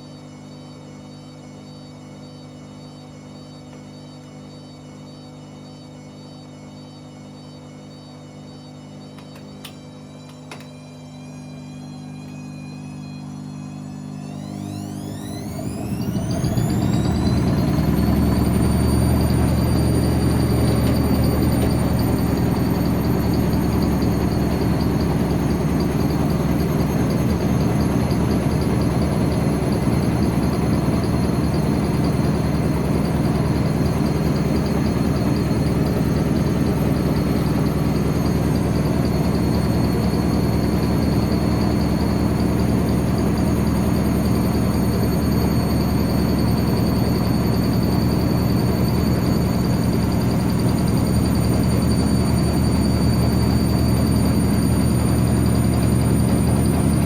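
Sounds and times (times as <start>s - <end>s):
high motor whine: 0.0s - 57.0s.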